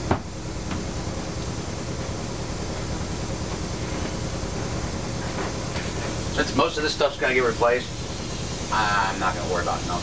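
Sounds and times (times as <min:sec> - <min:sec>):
rushing workshop noise: 0:00.0 - 0:10.0.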